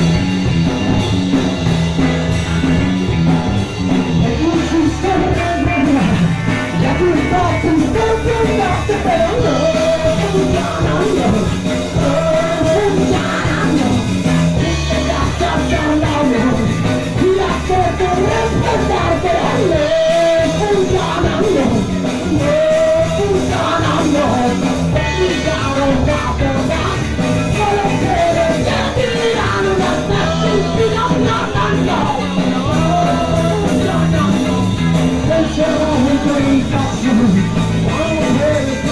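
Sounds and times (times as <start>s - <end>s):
punk rock band playing: 0.0s - 38.9s
person singing: 4.2s - 38.9s.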